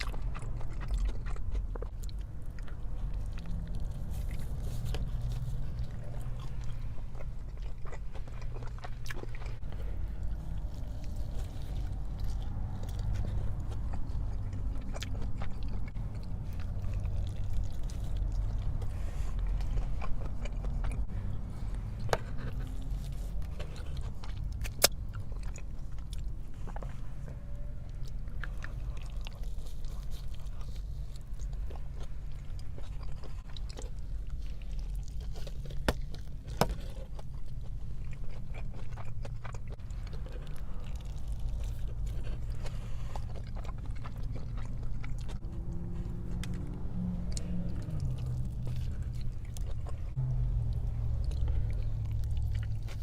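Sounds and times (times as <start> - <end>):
person chewing food: 0.0 - 53.0
steady low hum: 0.0 - 53.0.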